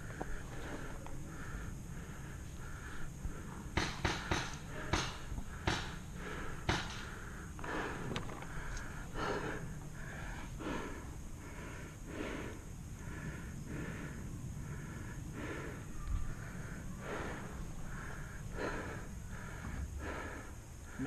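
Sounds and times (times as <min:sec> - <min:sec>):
person breathing hard and fast: 0:00.0 - 0:21.0.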